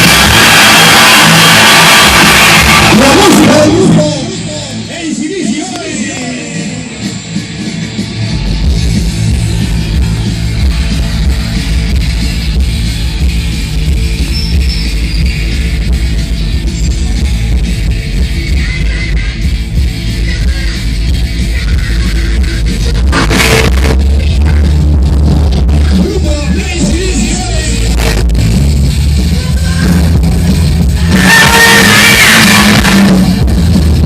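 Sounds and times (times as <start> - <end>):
loud rock music: 0.0 - 34.0.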